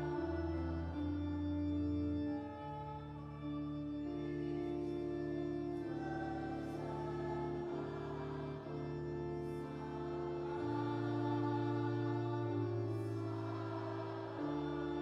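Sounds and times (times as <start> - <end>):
organ chords on keyboard: 0.0 - 15.0.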